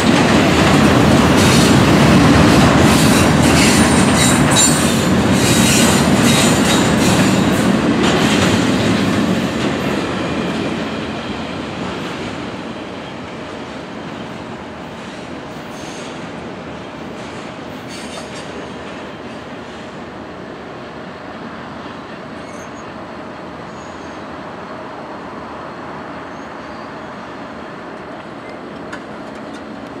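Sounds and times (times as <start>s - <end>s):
freight train rolling on rails: 0.0s - 30.0s.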